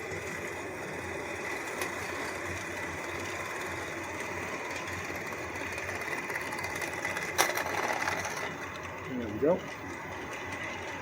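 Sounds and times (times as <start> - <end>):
small electric motors whirring: 0.0 - 11.0
wheel-on-rail clatter: 0.0 - 11.0.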